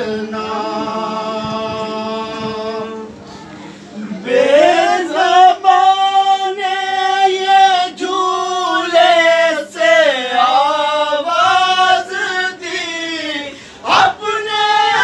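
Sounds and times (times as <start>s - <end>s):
men chanting a lament: 0.0s - 3.2s, 4.1s - 15.0s.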